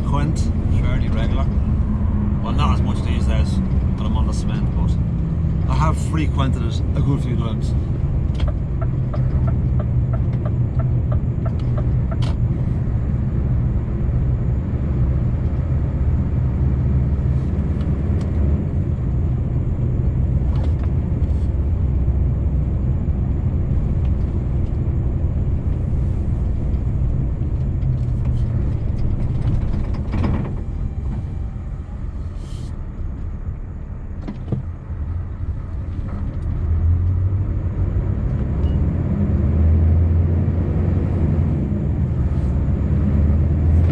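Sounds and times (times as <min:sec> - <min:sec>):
truck engine and road rumble: 0:00.0 - 0:43.9.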